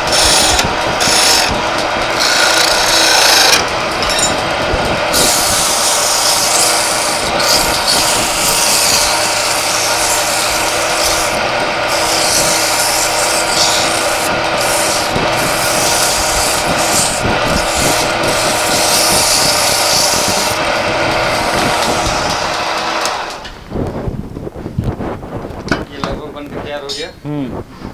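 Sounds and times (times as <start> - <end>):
abrasive rubbing on wood: 0.0 - 23.4
lathe motor hum: 0.0 - 23.8.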